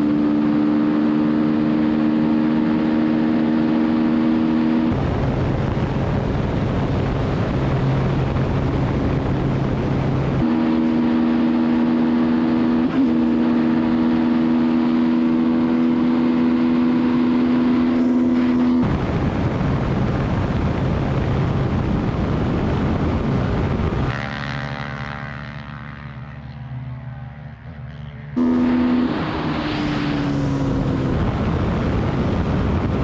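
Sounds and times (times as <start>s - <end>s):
high engine drone: 0.0s - 33.0s
loud wind rush: 1.6s - 24.3s, 28.4s - 33.0s.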